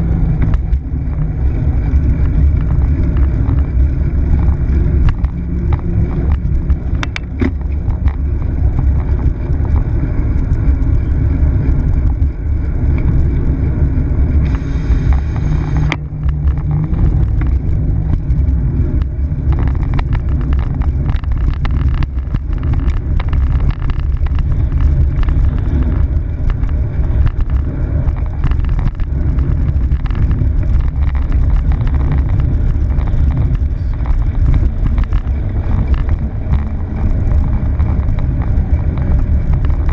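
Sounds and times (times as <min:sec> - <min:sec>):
bike clicks and rattles: 0:00.0 - 0:39.9
wind rushing over microphone: 0:00.0 - 0:39.9.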